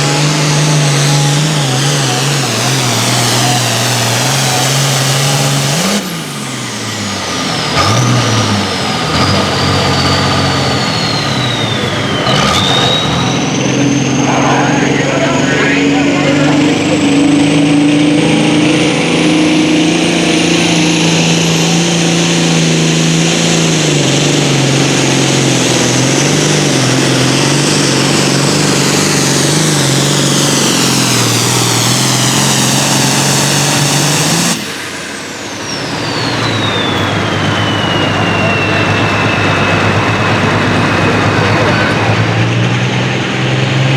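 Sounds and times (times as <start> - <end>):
tractor diesel engine under load: 0.0 - 43.9
turbo whine: 0.0 - 43.9.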